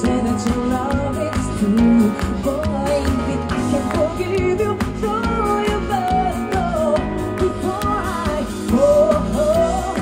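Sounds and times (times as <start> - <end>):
band playing pop song: 0.0 - 10.0
person singing: 0.0 - 10.0.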